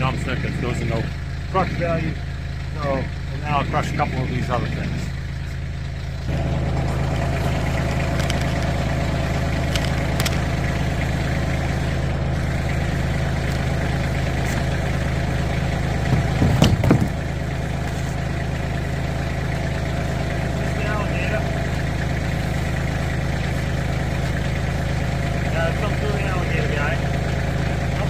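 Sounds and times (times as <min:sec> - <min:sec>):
backhoe engine running: 0:00.0 - 0:28.0.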